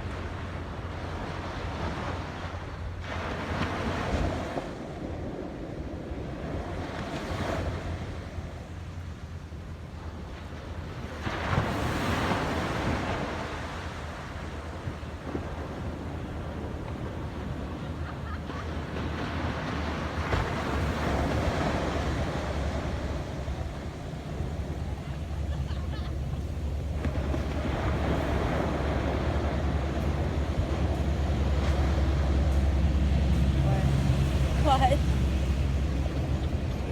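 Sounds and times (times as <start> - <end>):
ocean waves breaking: 0.0 - 36.9
wind buffeting microphone: 0.0 - 36.9.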